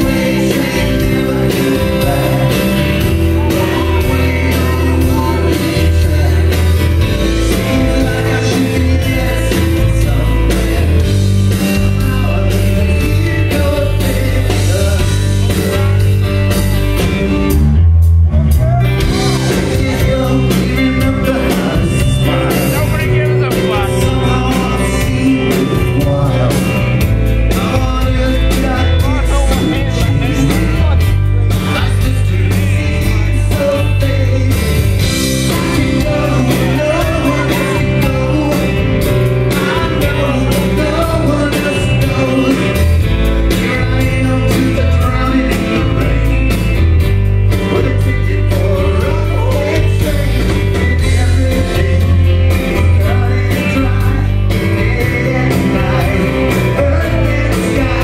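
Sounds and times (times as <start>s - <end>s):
lead vocal singing: 0.0s - 17.6s, 18.6s - 58.0s
rock band playing: 0.0s - 58.0s.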